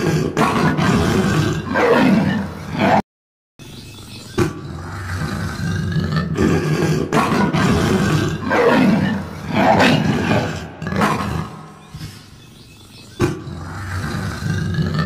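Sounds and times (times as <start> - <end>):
big cat roaring: 0.0 - 3.0, 4.4 - 12.4, 13.0 - 15.0.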